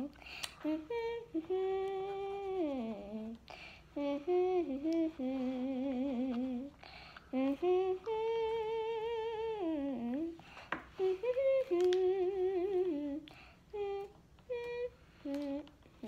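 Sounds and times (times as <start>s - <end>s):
girl humming a tune: 0.0s - 16.0s.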